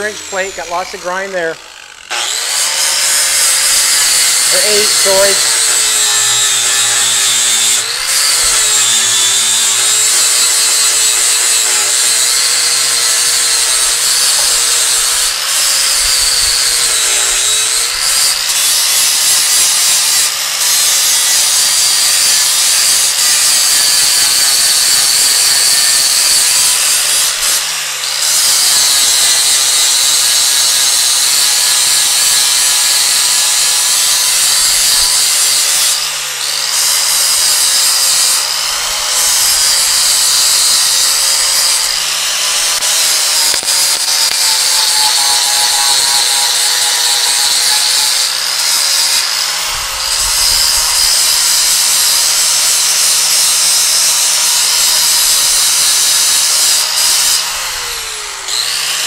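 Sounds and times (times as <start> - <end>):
angle grinder grinding metal: 0.0 - 59.0.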